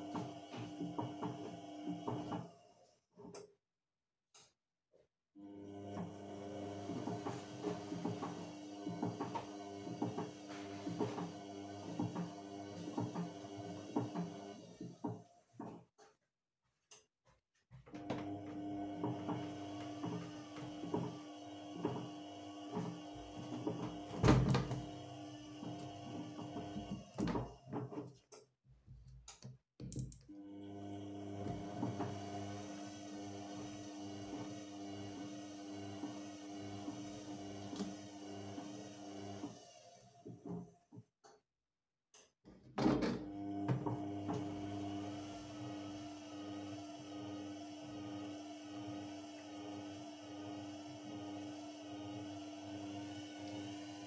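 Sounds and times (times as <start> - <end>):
washing machine motor hum: 0.0 - 2.8, 5.4 - 15.8, 17.9 - 28.1, 29.8 - 40.9, 42.8 - 54.0.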